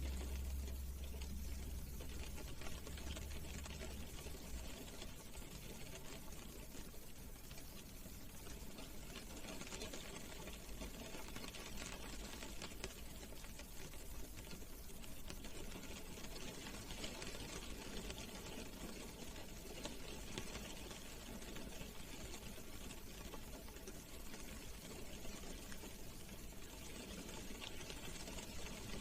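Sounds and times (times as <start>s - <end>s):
rain drumming on a car: 0.0s - 29.0s.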